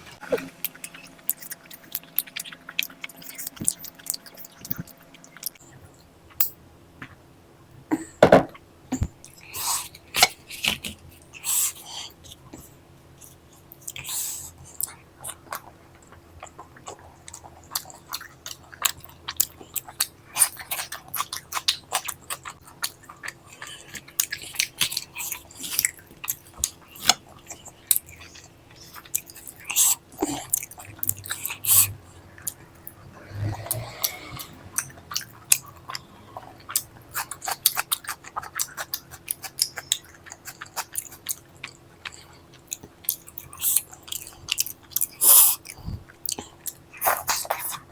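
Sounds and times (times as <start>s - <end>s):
person chewing food: 0.2s - 6.4s, 8.6s - 47.9s.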